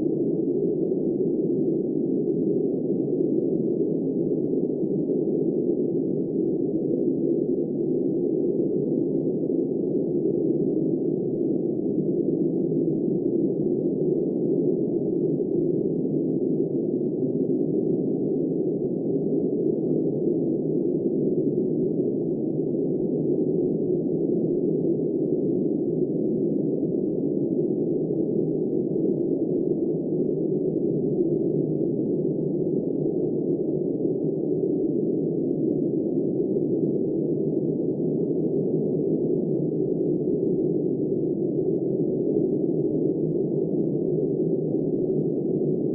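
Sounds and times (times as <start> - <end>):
muffled blizzard wind: 0.0 - 45.9.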